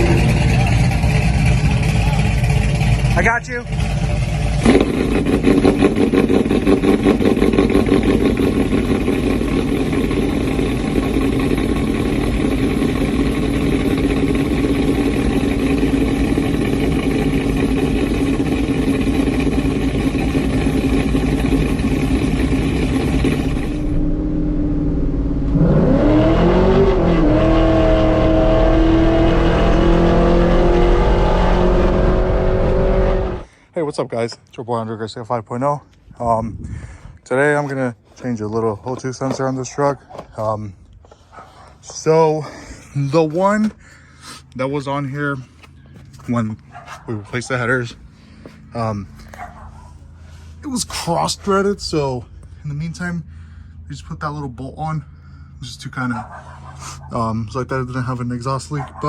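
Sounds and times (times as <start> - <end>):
engine idling and revving: 0.0 - 33.5, 37.1 - 59.0.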